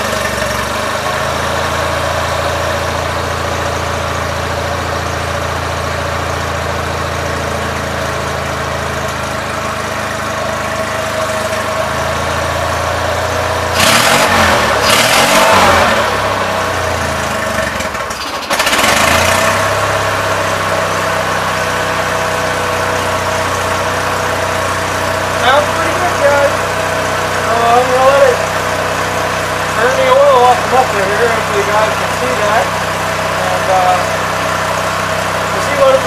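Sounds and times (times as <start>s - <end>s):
garden tractor engine idling: 0.0s - 36.0s.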